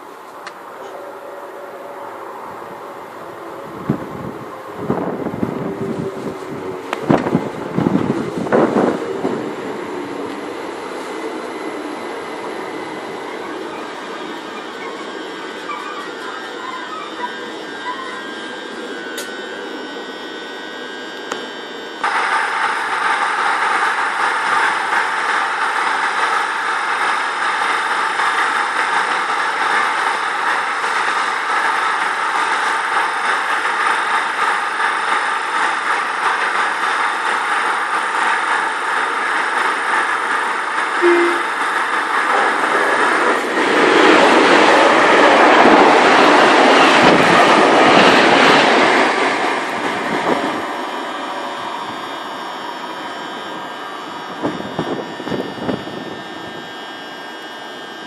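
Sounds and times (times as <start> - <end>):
train passing with hum: 0.0 - 58.0.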